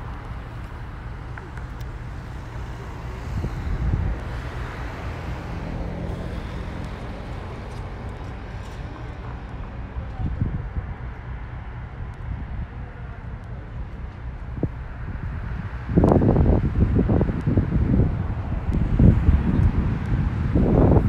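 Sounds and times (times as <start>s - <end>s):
engine hum: 0.0s - 21.0s
rumble of passing vehicles: 0.0s - 21.0s.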